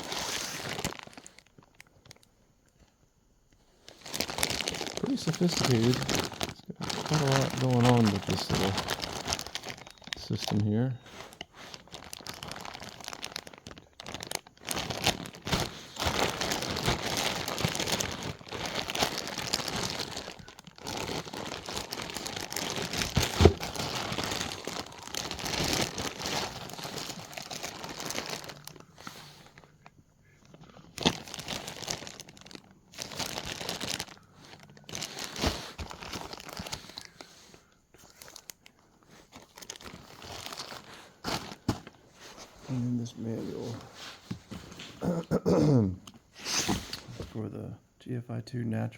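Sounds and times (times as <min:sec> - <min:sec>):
packaging crinkling and rustling: 0:00.0 - 0:02.9, 0:03.8 - 0:45.0.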